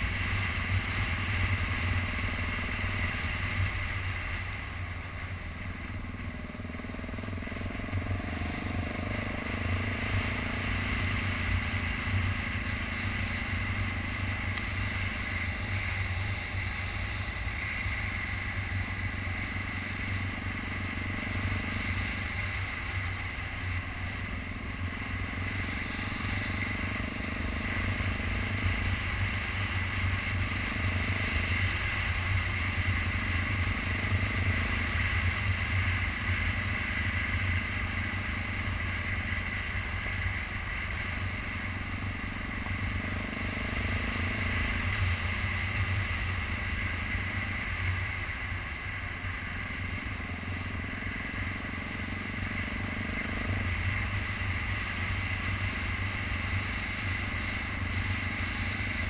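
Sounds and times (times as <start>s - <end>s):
motorcycle engine running: 0.0s - 59.0s
road noise: 0.0s - 59.0s.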